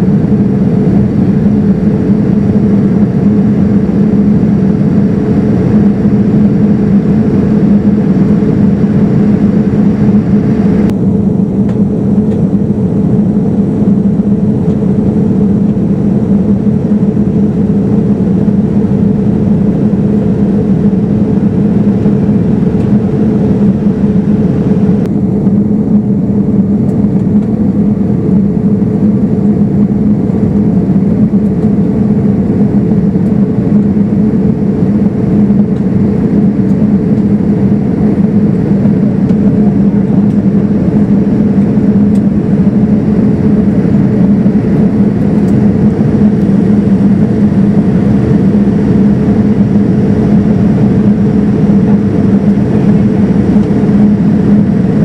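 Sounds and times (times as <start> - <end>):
airplane cabin air rush: 0.0 - 55.0
constant low hum: 0.0 - 55.0
jet engine drone: 0.0 - 55.0.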